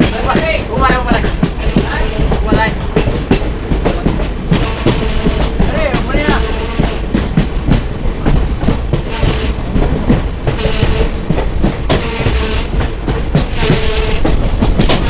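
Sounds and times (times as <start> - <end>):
train rumbling: 0.0 - 15.0
wheels clattering over rail joints: 0.0 - 15.0.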